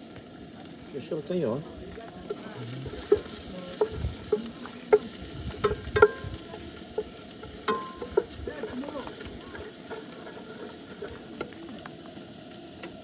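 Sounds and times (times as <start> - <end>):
food sizzling in a pan: 0.0 - 13.0
utensil clacking against pan: 1.9 - 13.0.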